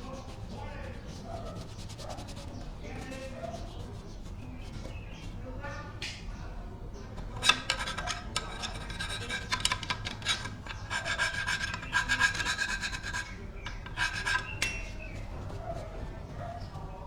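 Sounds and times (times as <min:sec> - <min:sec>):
hand filing on metal: 0:00.0 - 0:05.5, 0:07.2 - 0:16.4.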